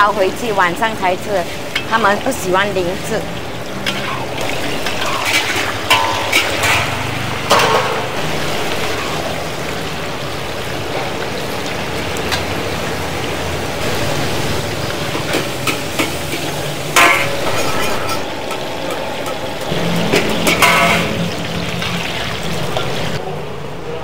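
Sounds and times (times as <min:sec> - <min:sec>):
hot oil sizzling: 0:00.0 - 0:23.2.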